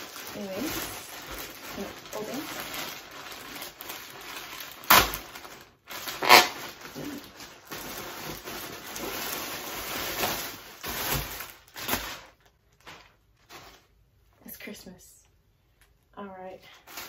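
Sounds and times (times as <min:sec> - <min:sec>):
plastic bag ripping: 0:00.0 - 0:13.9
plastic bag crinkling: 0:00.0 - 0:14.1, 0:16.7 - 0:17.0.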